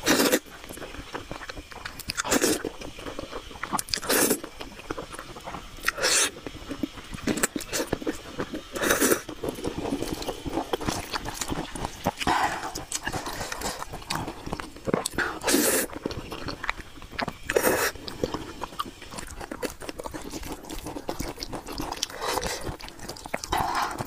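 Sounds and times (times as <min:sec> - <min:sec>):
crunching pickled radish: 0:00.0 - 0:24.0
slurping noodles: 0:00.0 - 0:24.0
wet chewing: 0:00.0 - 0:24.0.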